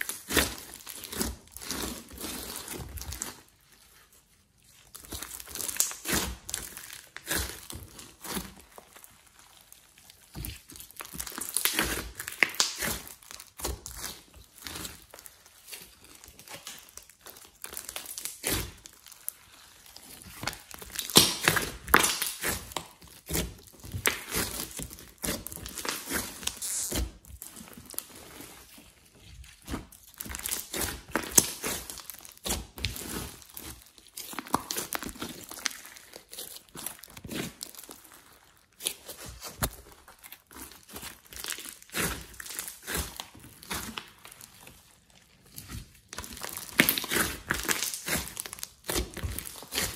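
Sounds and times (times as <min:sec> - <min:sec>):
slime squishing and crackling: 0:00.0 - 0:49.9.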